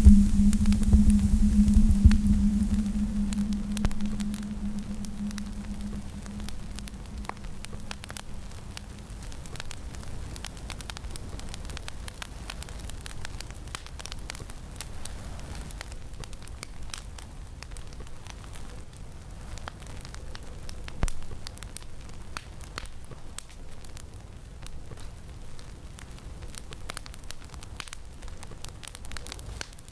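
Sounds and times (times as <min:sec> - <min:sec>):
fire crackling: 0:00.0 - 0:29.9.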